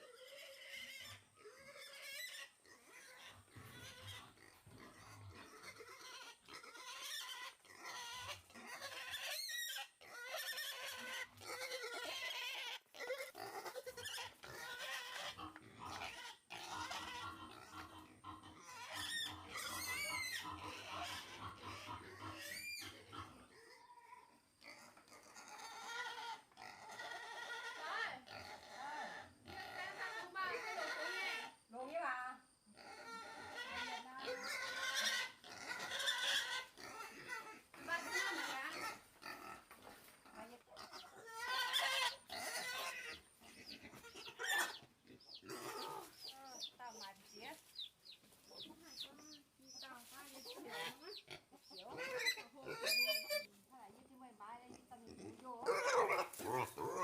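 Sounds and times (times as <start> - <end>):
wild boars grunting and squealing: 0.0 - 47.1, 48.4 - 53.5, 54.6 - 57.0.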